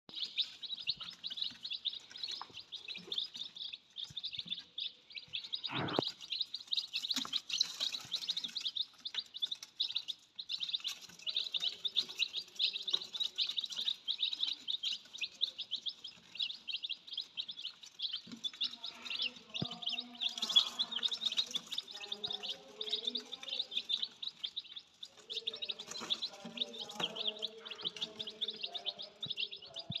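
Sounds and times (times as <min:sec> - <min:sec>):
baby birds chirping: 0:00.1 - 0:30.0.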